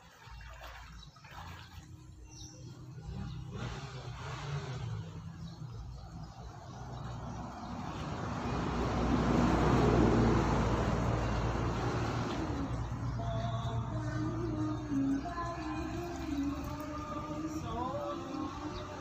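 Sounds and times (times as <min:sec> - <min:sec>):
motor vehicle driving past: 0:02.3 - 0:19.0.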